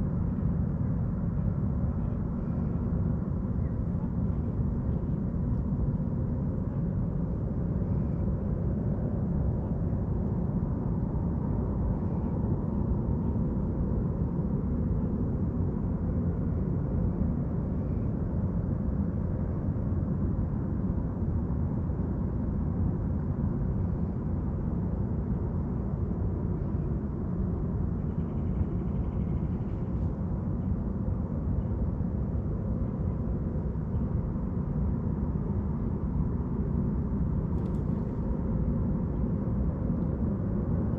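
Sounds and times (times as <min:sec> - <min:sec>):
faint even hum: 0:00.0 - 0:40.9.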